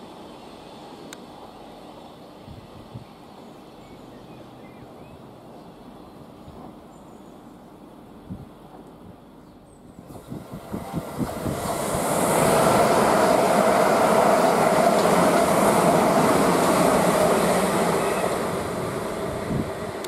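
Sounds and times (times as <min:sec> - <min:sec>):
train wheel and rail rush: 0:00.0 - 0:20.0.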